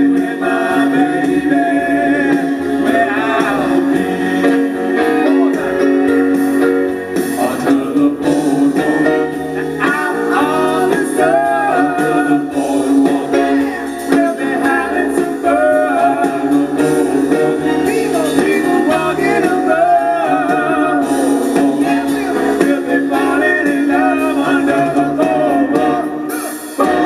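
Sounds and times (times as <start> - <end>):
person singing: 0.0 - 6.4, 7.2 - 27.0
guitar: 0.0 - 27.0
live rock band: 0.0 - 27.0.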